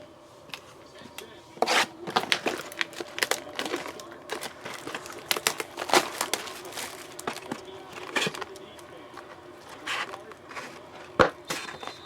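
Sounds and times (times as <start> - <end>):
plastic wrapping crinkling and tearing: 1.2 - 12.0.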